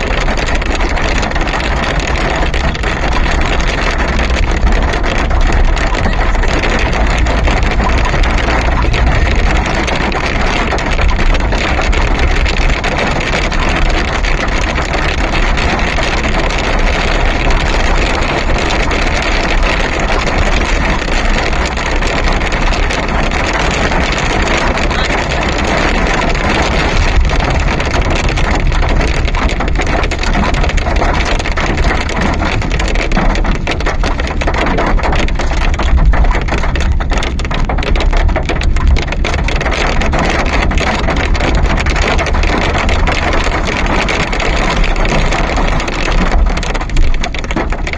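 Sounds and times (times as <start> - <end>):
storm wind on microphone: 0.0 - 47.9.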